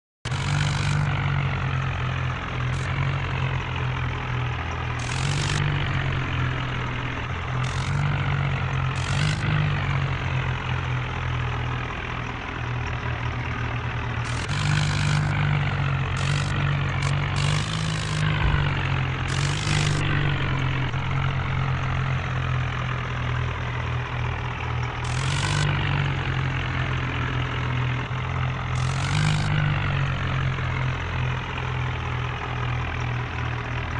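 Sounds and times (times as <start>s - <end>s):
tractor diesel engine droning: 0.3s - 33.9s.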